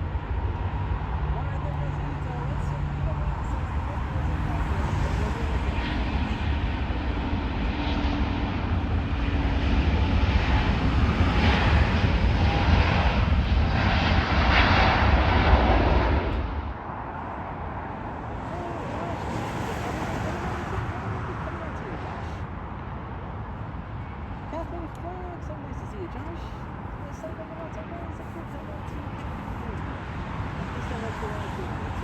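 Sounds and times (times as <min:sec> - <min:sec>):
jet airliner passing: 0:00.0 - 0:32.0.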